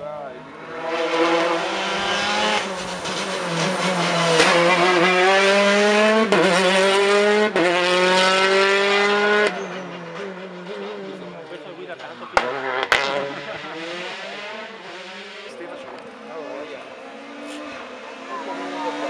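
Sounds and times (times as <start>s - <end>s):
rally car engine accelerating: 0.2s - 19.0s.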